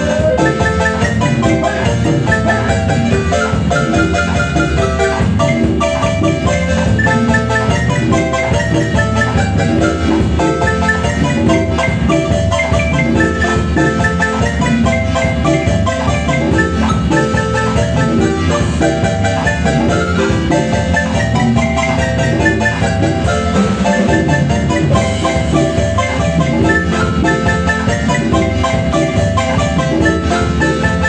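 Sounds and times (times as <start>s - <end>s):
marimba music: 0.0s - 31.0s.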